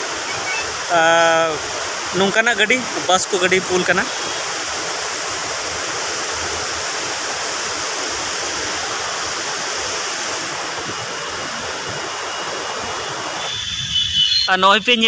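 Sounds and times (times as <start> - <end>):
steady rushing noise with hiss: 0.0 - 14.0.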